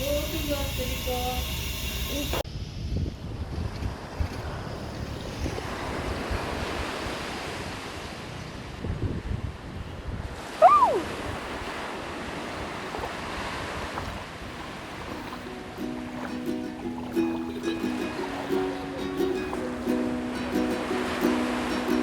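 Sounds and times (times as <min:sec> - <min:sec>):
wind buffeting microphone: 0:00.0 - 0:22.0
sea waves washing ashore: 0:03.2 - 0:22.0.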